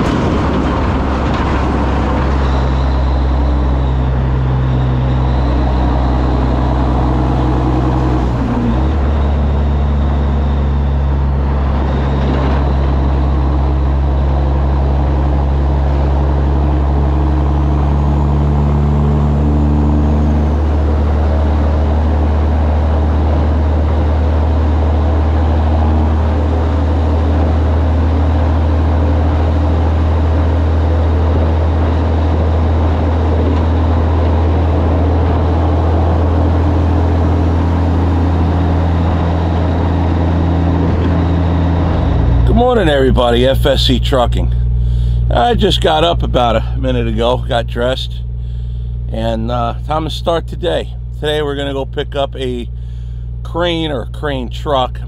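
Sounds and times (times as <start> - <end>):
diesel engine low drone: 0.0 - 55.0.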